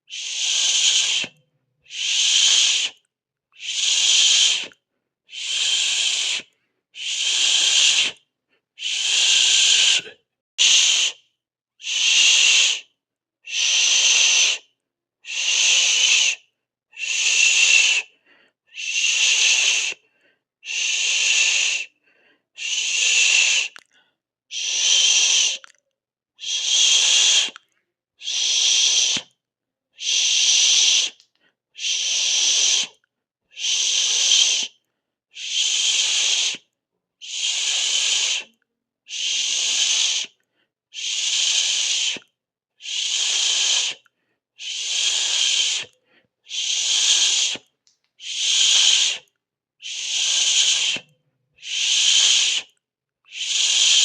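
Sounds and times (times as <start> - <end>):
person hissing: 0.1 - 3.0, 3.6 - 8.2, 8.8 - 11.2, 11.8 - 12.9, 13.5 - 16.4, 17.0 - 22.0, 22.6 - 23.9, 24.5 - 25.7, 26.4 - 27.6, 28.2 - 29.4, 30.0 - 31.2, 31.8 - 34.8, 35.4 - 54.0.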